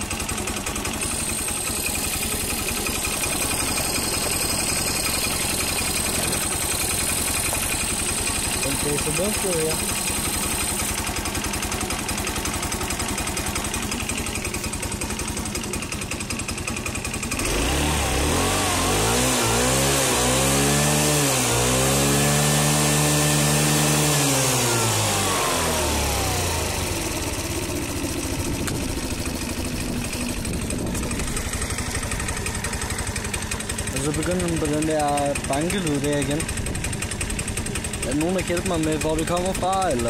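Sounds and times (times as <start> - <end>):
rapid engine knocking: 0.0 - 40.0
scooter engine idling and revving: 0.0 - 40.0.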